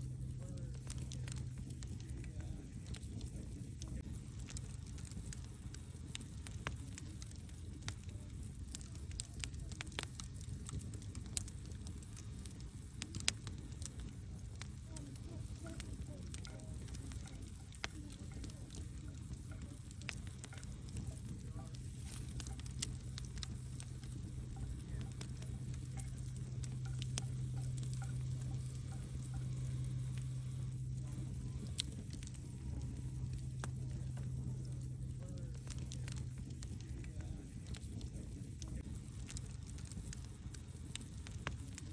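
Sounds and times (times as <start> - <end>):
low hum: 0.0 - 41.9
wood fire crackling and popping: 0.0 - 41.9.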